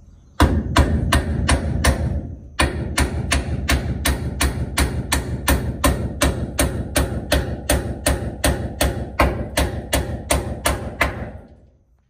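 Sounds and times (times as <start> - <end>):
hammer driving nails into wood: 0.4 - 11.6.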